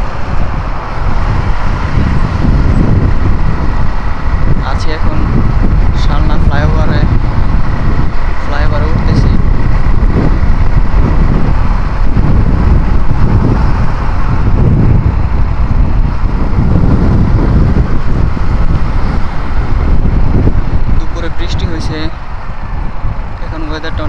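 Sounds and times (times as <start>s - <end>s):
motorcycle engine: 0.0s - 24.0s
wind rumble on microphone: 0.0s - 24.0s.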